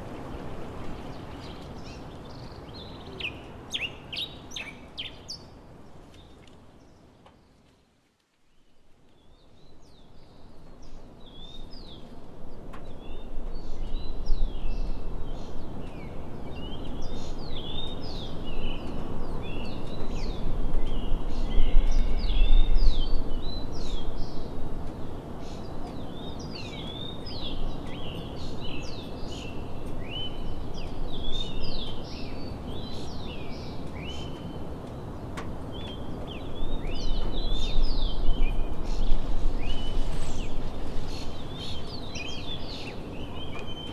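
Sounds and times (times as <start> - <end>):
birds chirping: 1.0 - 7.1, 9.2 - 43.9.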